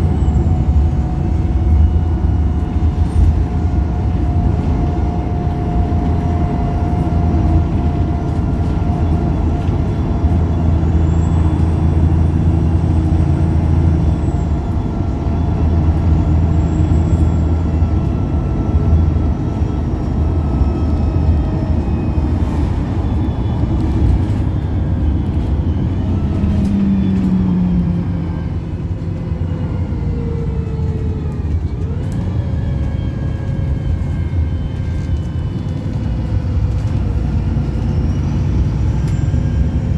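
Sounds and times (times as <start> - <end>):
bus engine hum and whine: 0.0 - 39.9.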